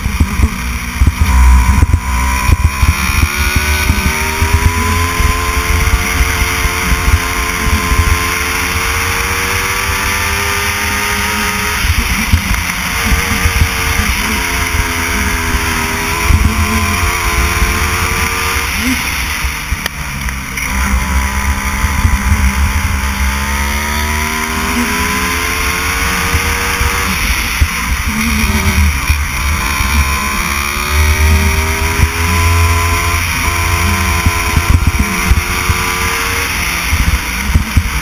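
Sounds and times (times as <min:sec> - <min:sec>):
go-kart engine revving: 0:00.0 - 0:38.0.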